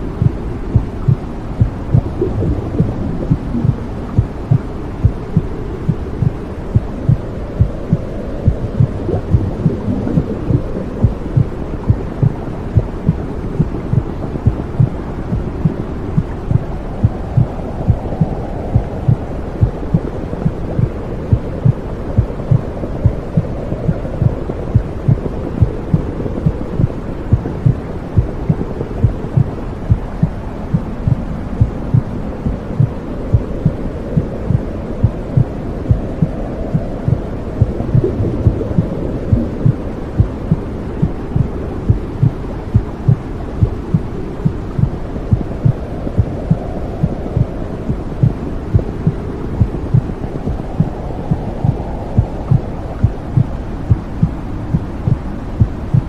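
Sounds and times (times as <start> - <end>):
muffled low whooshing rumble: 0.0 - 56.0
heartbeat thumping: 0.2 - 26.6, 27.3 - 56.0.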